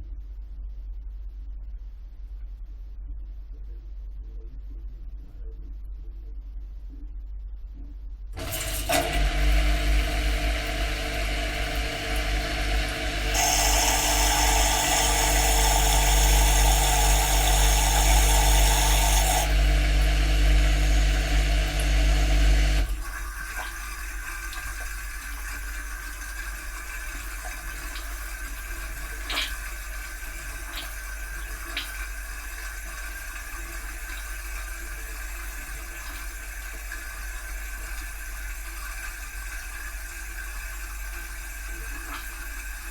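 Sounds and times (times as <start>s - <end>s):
dishwasher motor hum: 8.3s - 42.9s
rushing water in dishwasher: 8.4s - 42.9s.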